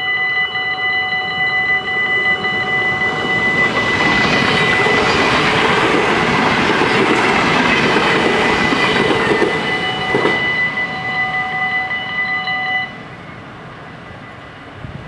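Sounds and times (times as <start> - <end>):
crossing warning bells ringing: 0.0 - 15.0
train wheels rumbling on rails: 1.1 - 15.0.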